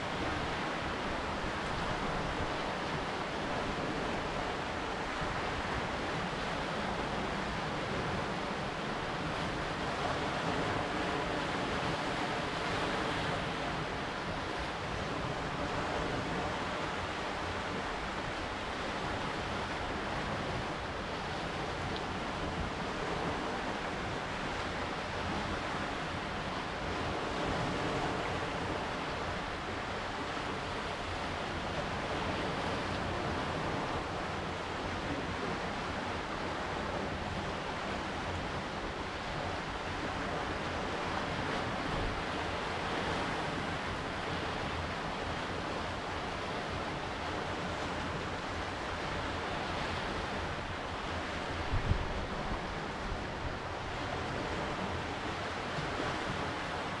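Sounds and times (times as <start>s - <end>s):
waves washing onto rocks: 0.0s - 57.0s
wind on microphone: 0.0s - 57.0s.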